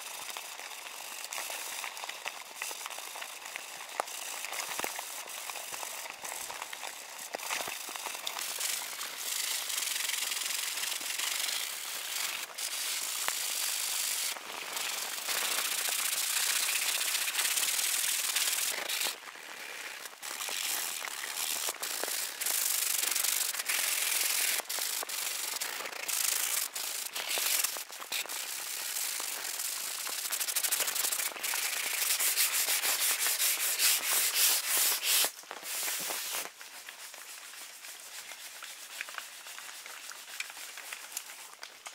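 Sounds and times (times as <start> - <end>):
sandpaper rasping strokes: 0.2 - 41.5.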